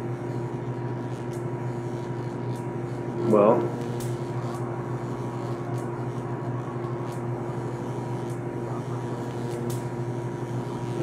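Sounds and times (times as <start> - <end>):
mechanical room hum: 0.0 - 11.0.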